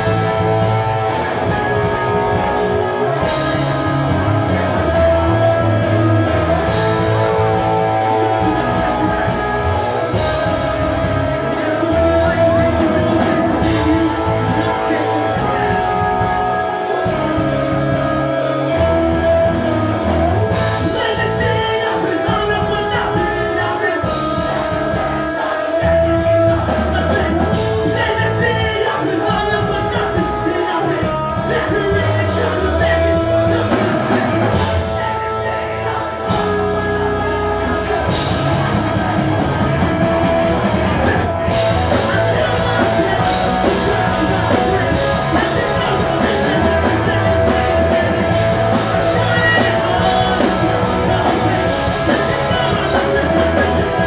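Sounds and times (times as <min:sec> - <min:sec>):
person singing: 0:00.0 - 0:39.9, 0:40.6 - 0:54.0
bass guitar: 0:00.0 - 0:54.0
drums: 0:00.0 - 0:54.0
electric guitars: 0:00.0 - 0:54.0.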